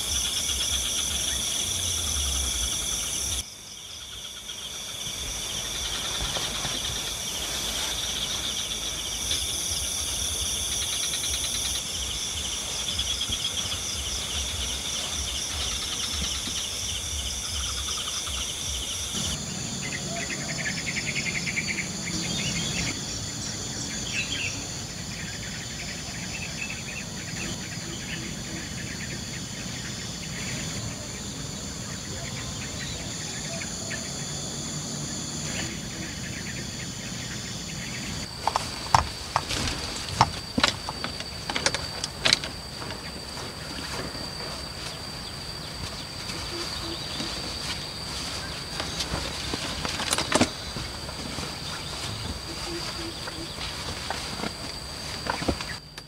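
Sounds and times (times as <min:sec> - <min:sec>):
crickets and insects trilling: 0:00.0 - 0:56.0.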